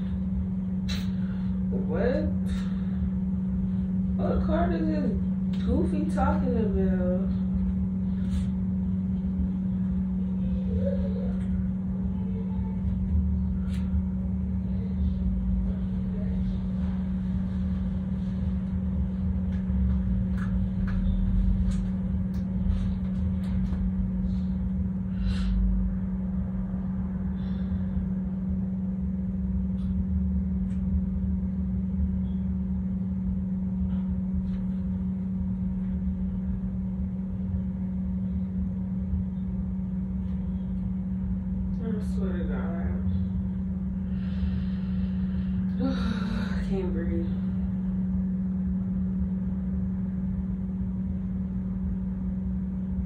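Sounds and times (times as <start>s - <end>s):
low drone and rumble: 0.0s - 53.0s.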